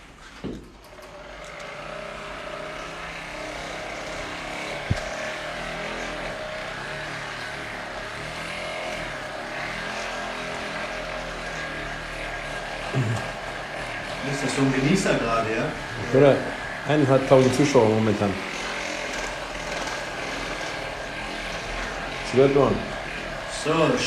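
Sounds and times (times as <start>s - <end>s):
small motor whirring: 0.0s - 24.0s.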